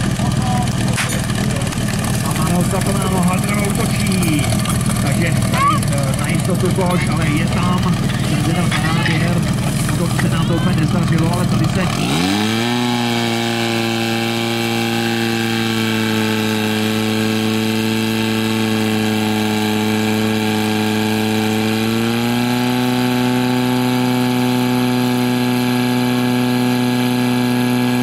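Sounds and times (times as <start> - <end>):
pump engine droning: 0.0 - 28.0.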